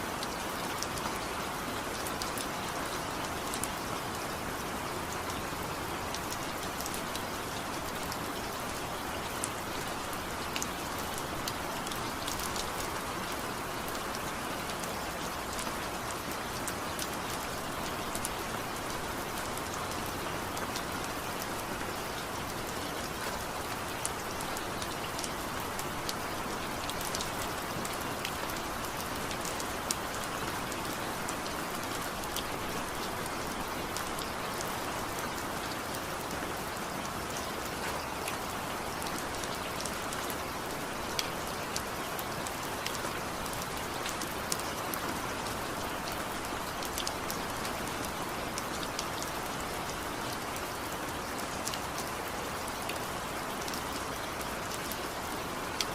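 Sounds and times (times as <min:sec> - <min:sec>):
raindrops ticking on a surface: 0:00.0 - 0:55.9
steady rain falling: 0:00.0 - 0:55.9.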